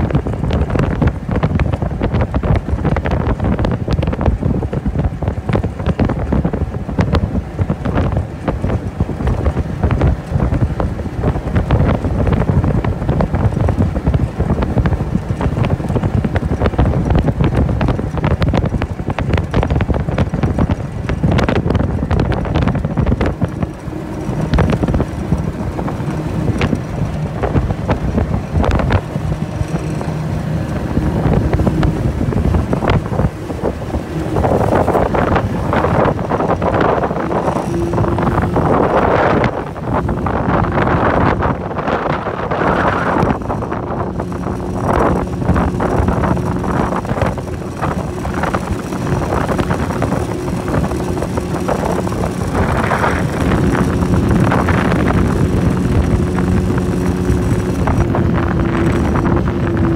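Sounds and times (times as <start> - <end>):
outboard motor running: 0.0 - 59.9
wind buffeting microphone: 0.0 - 59.9.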